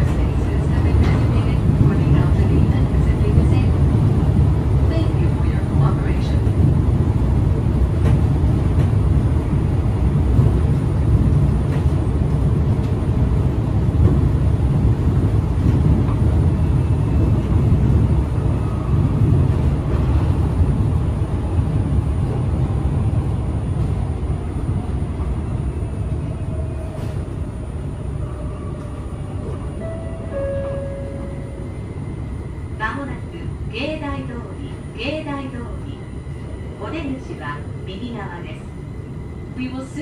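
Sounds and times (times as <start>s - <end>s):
maglev train low rumble: 0.0s - 40.0s.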